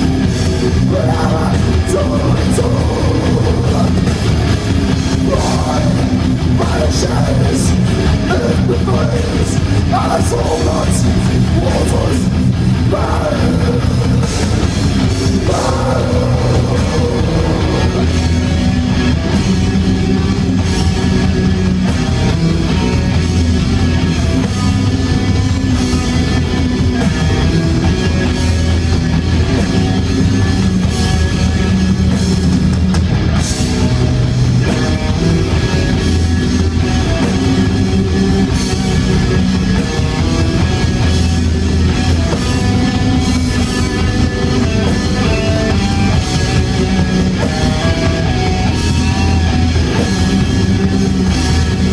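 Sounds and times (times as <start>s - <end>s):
death metal band playing live: 0.0s - 51.9s.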